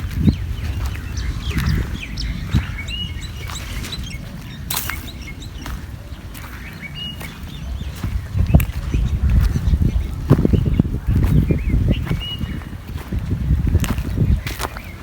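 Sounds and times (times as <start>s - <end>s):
high bird chirps: 0.0s - 12.7s
steady low rumble: 0.0s - 14.6s.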